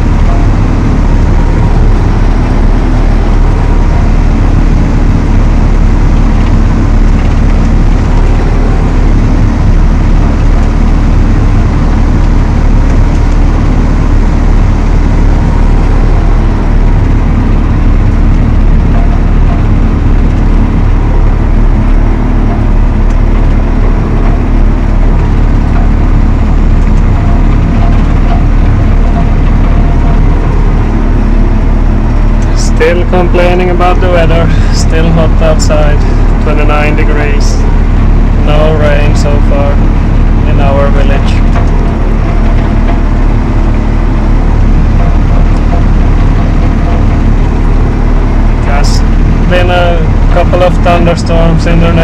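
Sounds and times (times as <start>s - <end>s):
tractor diesel engine droning: 0.0s - 52.0s.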